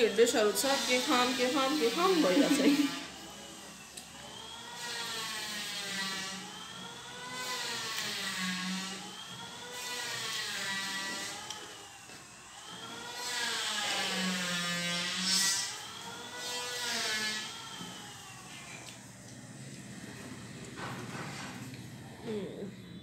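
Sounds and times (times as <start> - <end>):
machine whirring whine: 0.0 - 23.0.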